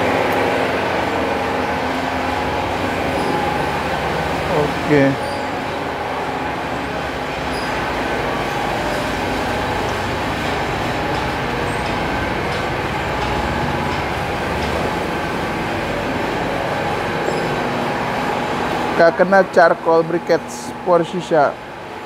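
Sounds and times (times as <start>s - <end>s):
factory machinery din: 0.0s - 22.0s.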